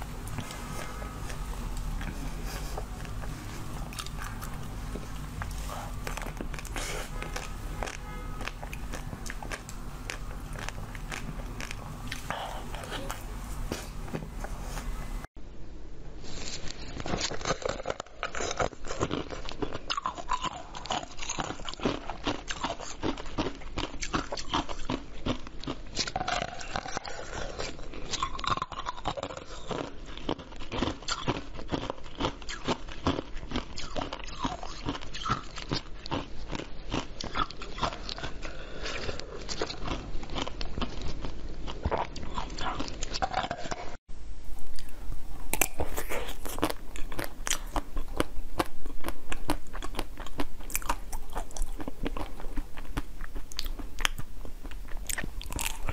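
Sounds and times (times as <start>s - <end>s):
teeth crunching ice: 0.0s - 13.2s, 17.0s - 43.9s, 44.7s - 55.9s.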